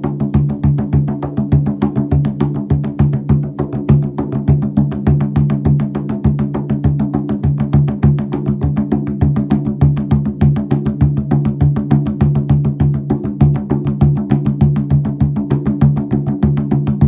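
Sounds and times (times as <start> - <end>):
fast drum strokes: 0.0 - 17.0.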